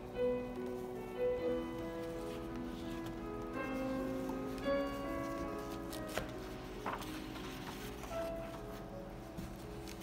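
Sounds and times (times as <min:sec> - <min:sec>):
music of sustained held notes: 0:00.0 - 0:10.0
paper rustle: 0:00.5 - 0:10.0.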